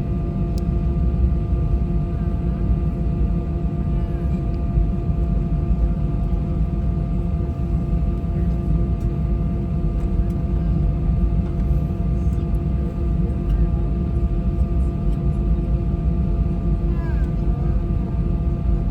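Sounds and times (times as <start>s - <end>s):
air-conditioning: 0.0s - 18.9s
jet engines rumbling at low power: 0.0s - 18.9s.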